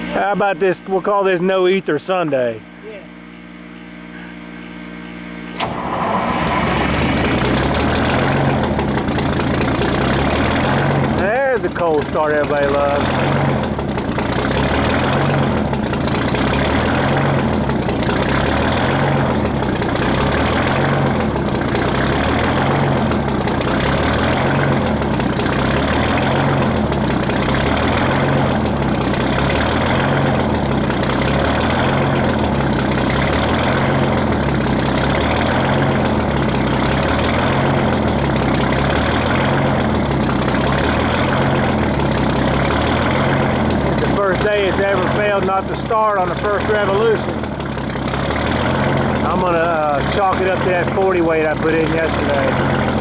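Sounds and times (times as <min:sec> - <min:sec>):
diesel engine idling: 0:00.0 - 0:03.2, 0:05.5 - 0:53.0.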